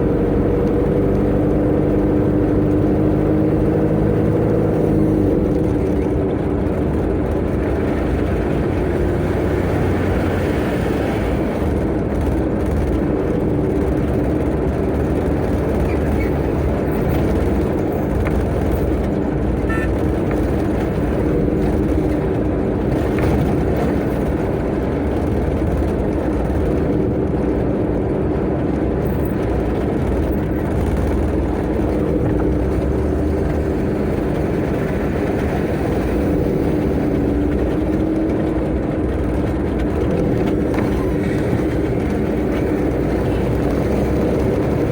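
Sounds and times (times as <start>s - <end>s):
road and wind noise: 0.0s - 44.9s
truck engine hum: 0.0s - 44.9s.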